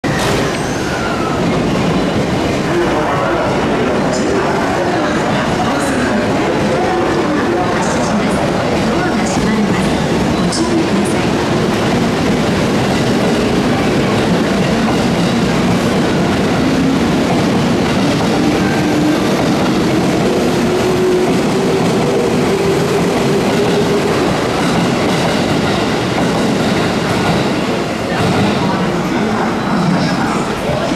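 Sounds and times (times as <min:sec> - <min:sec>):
train wheels on rails: 0:00.0 - 0:30.9.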